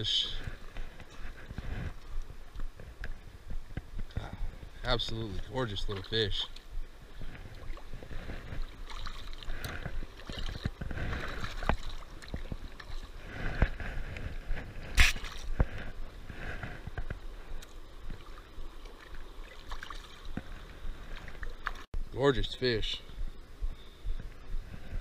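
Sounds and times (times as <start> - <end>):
river rushing and gurgling: 0.0 - 21.9.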